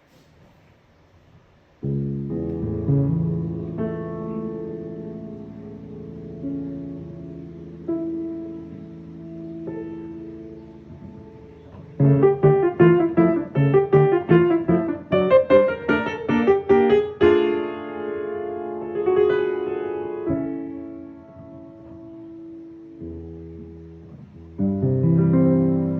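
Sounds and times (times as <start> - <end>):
piano playing: 1.8 - 25.9.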